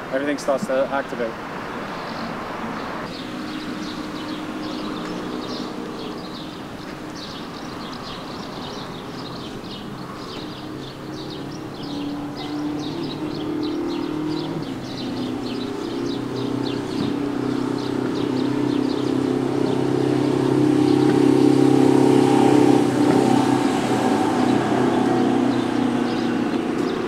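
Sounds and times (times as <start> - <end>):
small birds chirping: 0.2 - 27.0.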